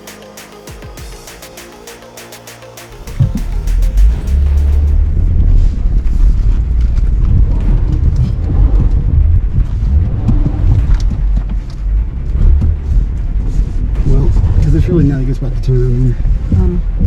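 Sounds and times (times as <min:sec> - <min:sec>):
vehicle rumbling on dirt road: 0:03.1 - 0:17.0.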